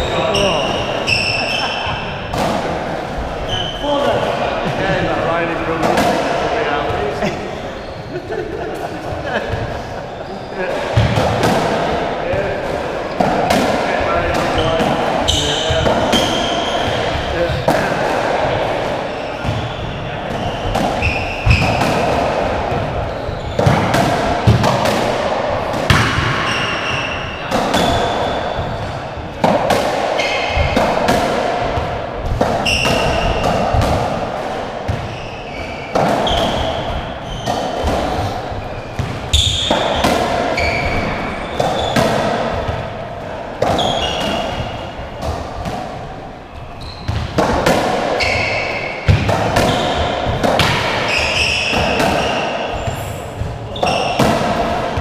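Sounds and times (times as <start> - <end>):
court shoes squeaking on wood: 0.0 - 2.6, 3.2 - 5.2, 5.8 - 17.9, 18.7 - 25.0, 25.7 - 43.0, 43.6 - 45.8, 46.4 - 55.0.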